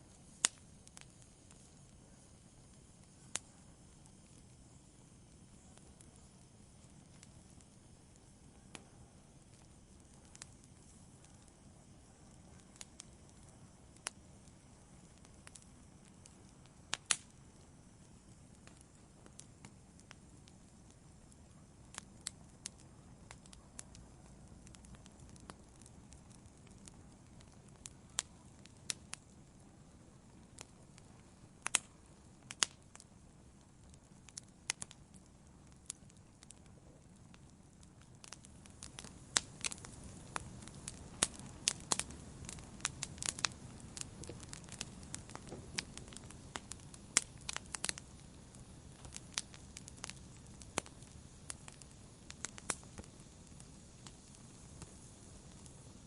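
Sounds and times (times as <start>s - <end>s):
campfire flame rumble: 0.0s - 56.0s
fire crackles and pops: 0.0s - 56.0s.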